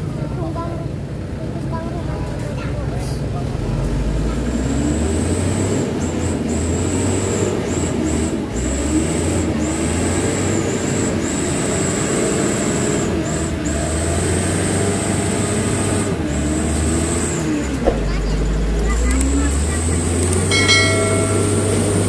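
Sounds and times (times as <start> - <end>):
diesel truck engine labouring: 0.0 - 22.0.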